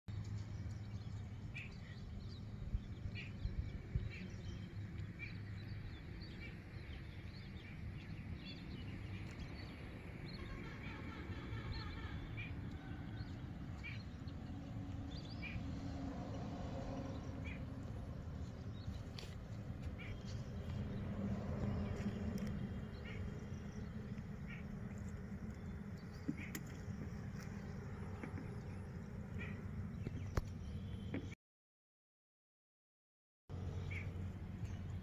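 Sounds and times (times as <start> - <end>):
steady low rumble: 0.1 - 31.3
birds chirping: 0.2 - 15.9, 16.9 - 31.4, 33.5 - 35.0.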